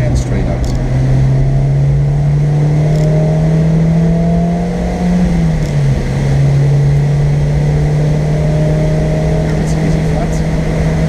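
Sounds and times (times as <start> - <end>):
car engine accelerating: 0.0 - 11.0
gear upshift: 0.0 - 11.0.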